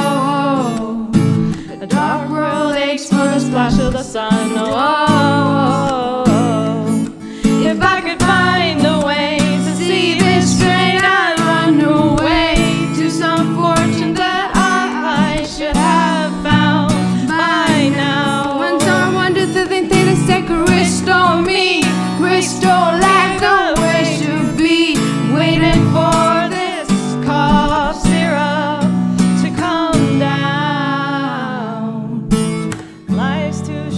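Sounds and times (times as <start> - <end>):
person singing: 0.0 - 32.4, 33.1 - 33.9
acoustic guitar chords: 0.0 - 33.9.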